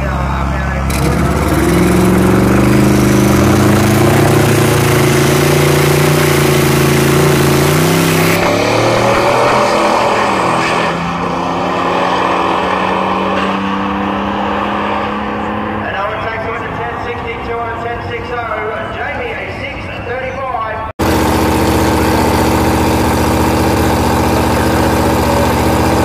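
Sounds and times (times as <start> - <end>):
drag racing cars at full throttle: 0.0 - 26.0.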